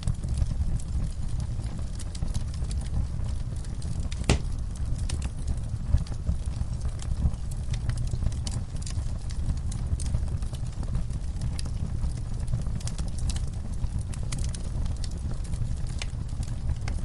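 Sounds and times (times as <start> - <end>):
fire crackling and popping: 0.0 - 17.0
fire flame rumble: 0.0 - 17.0.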